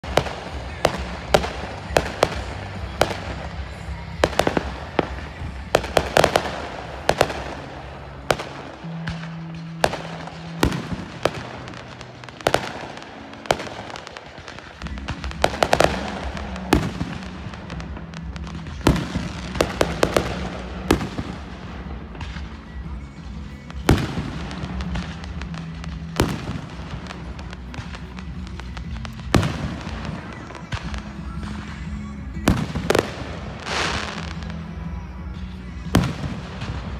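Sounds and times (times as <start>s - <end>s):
fireworks bursting with crackle: 0.0s - 36.9s
music playing: 0.0s - 36.9s.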